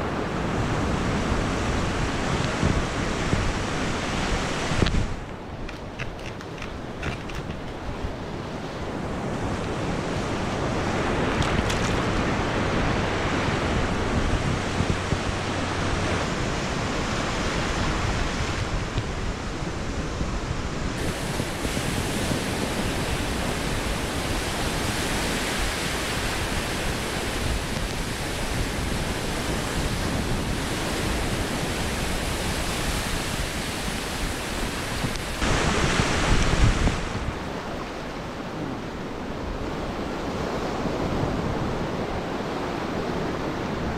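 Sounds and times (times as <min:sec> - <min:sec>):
surf breaking on beach: 0:00.0 - 0:43.9
wind on microphone: 0:00.0 - 0:43.9.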